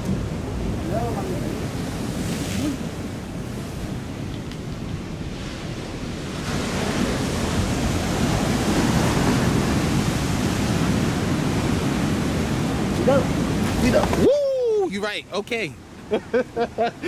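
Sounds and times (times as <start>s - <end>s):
wind buffeting microphone: 0.0s - 14.9s
ocean surf rushing: 0.0s - 17.0s.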